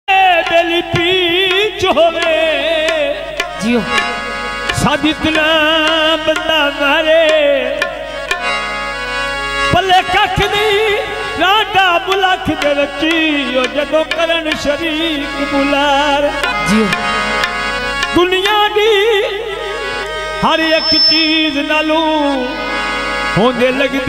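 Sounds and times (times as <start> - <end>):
tabla strokes: 0.3 - 18.8, 20.5 - 22.0
ornamented melody line: 0.4 - 24.0.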